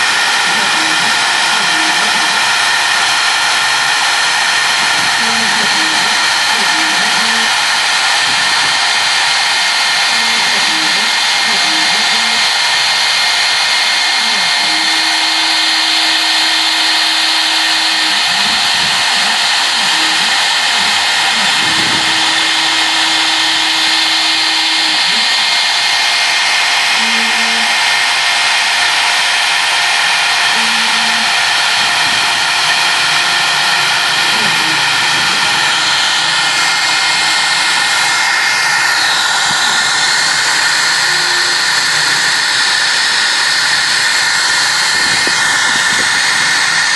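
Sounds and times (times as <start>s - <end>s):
bit milling circuit board: 0.0s - 46.9s
motor tones shifting pitch: 0.0s - 46.9s
router spindle high whine: 0.0s - 46.9s.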